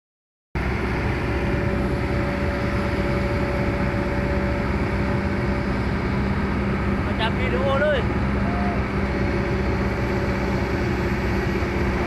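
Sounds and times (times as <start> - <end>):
diesel engine running: 0.6 - 12.0.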